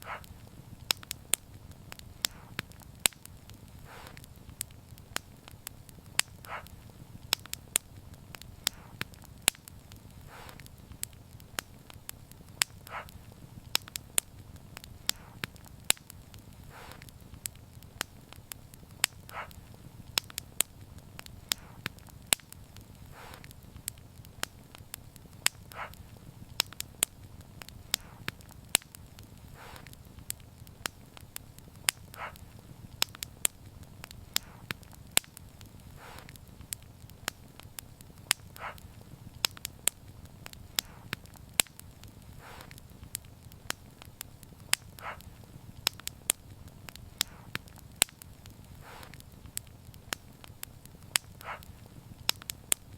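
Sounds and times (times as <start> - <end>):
low fire rumble: 0.0 - 52.9
wood fire crackling and popping: 0.0 - 52.9.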